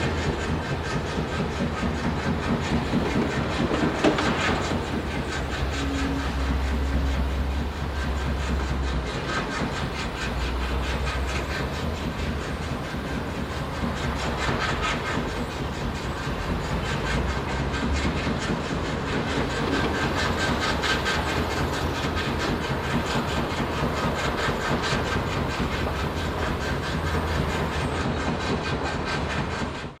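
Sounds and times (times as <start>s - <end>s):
city background noise: 0.0s - 30.0s.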